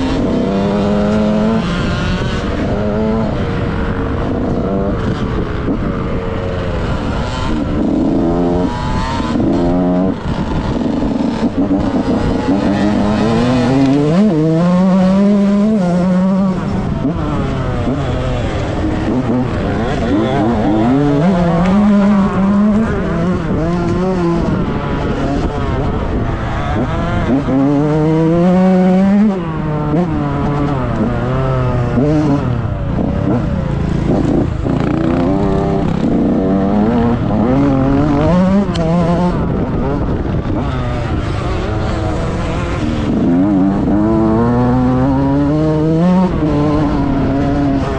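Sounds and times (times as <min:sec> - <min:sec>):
motocross engine revving: 0:00.0 - 0:47.9.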